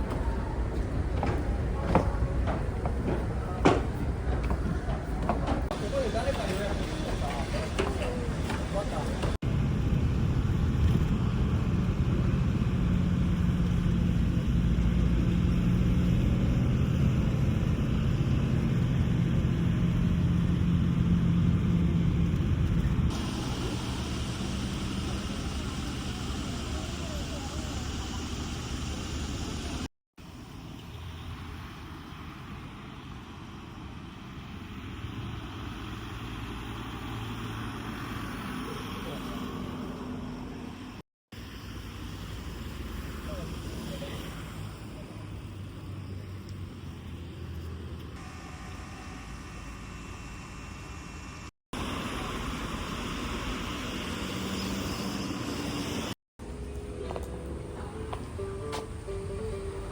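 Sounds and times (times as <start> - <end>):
large vehicle engine rumble: 0.0 - 48.2, 51.8 - 59.9.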